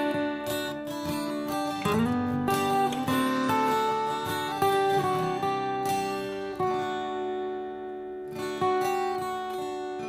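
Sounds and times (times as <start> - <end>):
strummed guitar music: 0.0 - 10.0.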